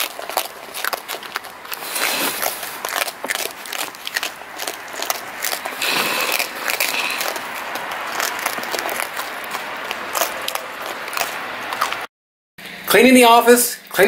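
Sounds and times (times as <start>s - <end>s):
raccoons crunching kibble: 0.0s - 12.1s
steady rustling hiss: 0.0s - 12.1s.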